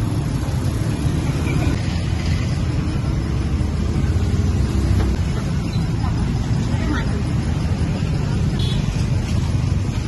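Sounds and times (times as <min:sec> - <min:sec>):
low rumble of street noise: 0:00.0 - 0:10.0.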